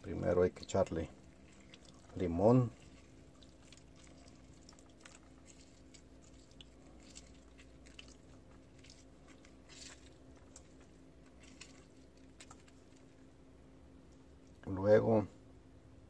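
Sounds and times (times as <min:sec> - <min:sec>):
low steady hum: 0:00.0 - 0:16.0
wet squishing of lime squeezed: 0:00.2 - 0:13.4.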